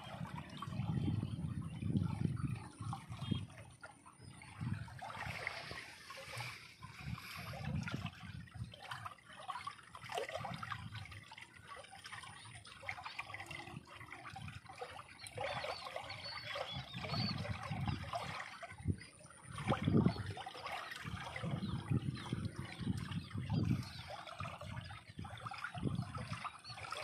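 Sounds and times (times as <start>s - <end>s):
stream trickling over stones: 0.0s - 27.0s.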